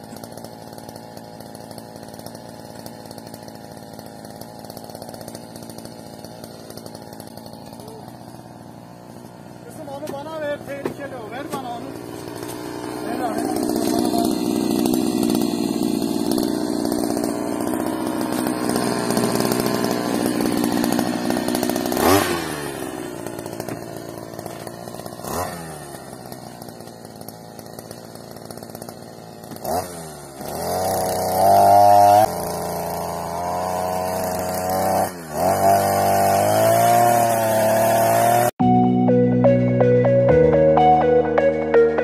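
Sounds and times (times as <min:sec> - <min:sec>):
brush cutter engine revving: 0:00.0 - 0:38.6.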